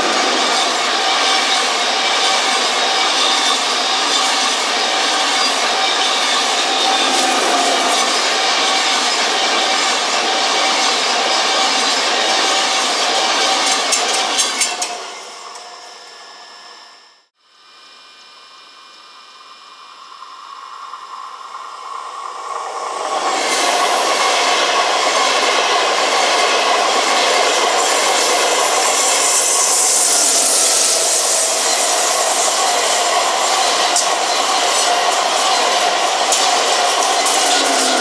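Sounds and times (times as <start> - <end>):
train passing at speed: 0.0 - 15.2, 20.5 - 38.0.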